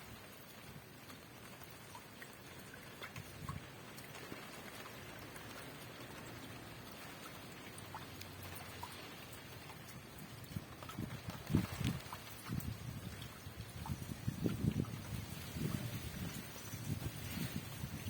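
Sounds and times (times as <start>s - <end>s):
raindrops ticking: 0.0s - 15.5s.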